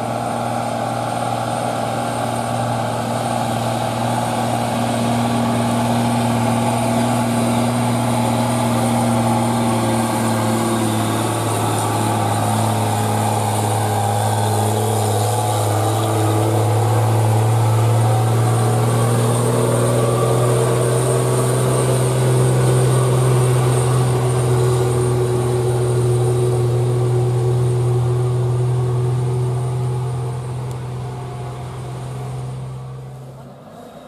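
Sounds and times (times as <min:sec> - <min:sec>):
diesel truck engine droning: 0:00.0 - 0:34.0.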